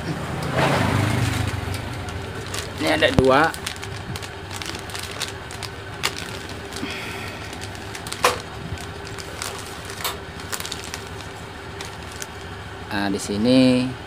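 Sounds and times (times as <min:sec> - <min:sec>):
steady hum: 0:00.0 - 0:14.0
plastic bag crinkling: 0:01.2 - 0:12.6.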